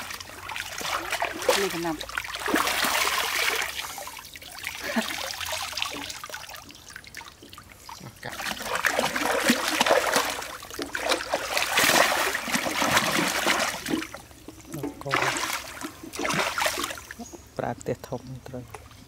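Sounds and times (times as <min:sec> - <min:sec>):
water dripping and splashing: 0:00.0 - 0:19.0.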